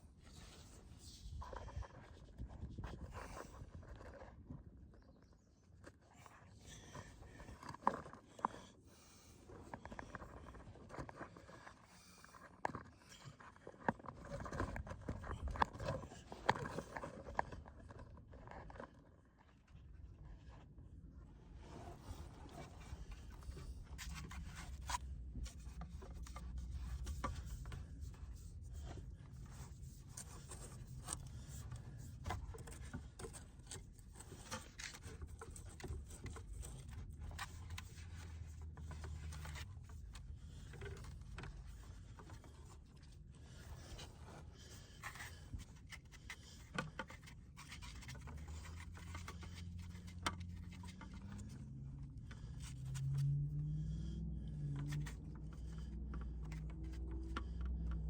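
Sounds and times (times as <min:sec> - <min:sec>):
scraping and rustling of materials: 0:00.0 - 0:58.0.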